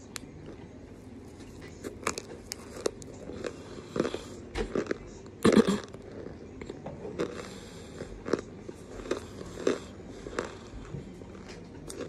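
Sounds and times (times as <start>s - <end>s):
chewing chalk crunches: 1.5s - 12.0s.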